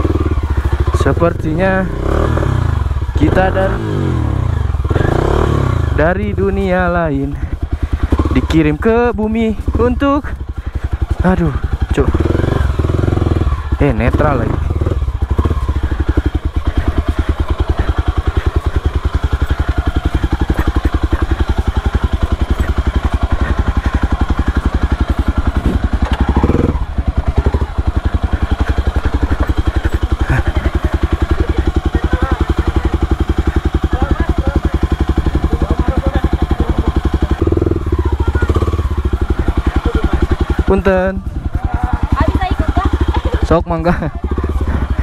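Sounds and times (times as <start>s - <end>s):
motorcycle engine running at low revs: 0.0s - 45.0s.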